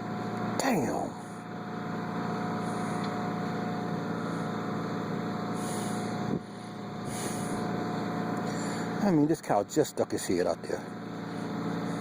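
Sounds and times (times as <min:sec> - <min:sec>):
machinery drone with whine: 0:00.0 - 0:12.0.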